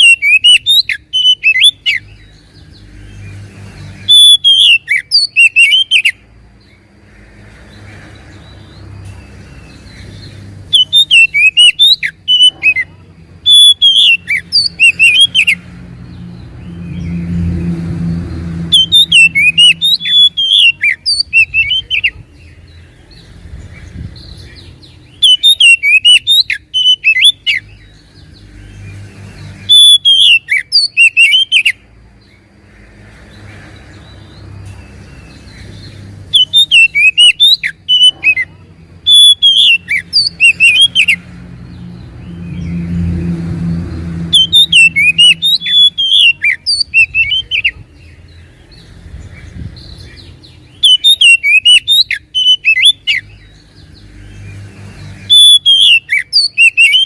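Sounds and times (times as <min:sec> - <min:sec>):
bird singing whistled notes: 0:00.0 - 0:06.8, 0:08.3 - 0:17.7, 0:18.6 - 0:32.3, 0:34.0 - 0:38.5, 0:39.1 - 0:43.4, 0:44.3 - 0:57.0.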